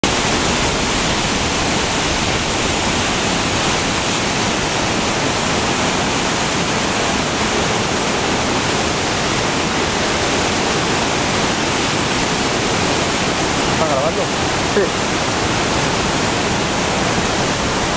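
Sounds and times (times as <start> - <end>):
river water rushing through rapids: 0.0 - 17.9.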